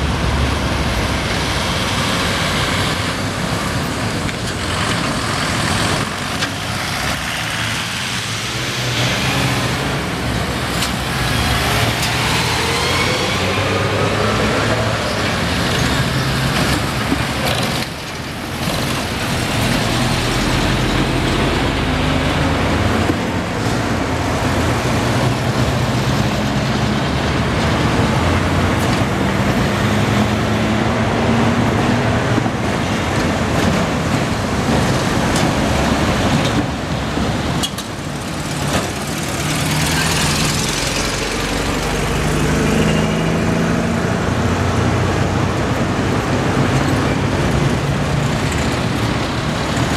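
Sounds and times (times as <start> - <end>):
cars and trucks driving past: 0.0 - 49.9.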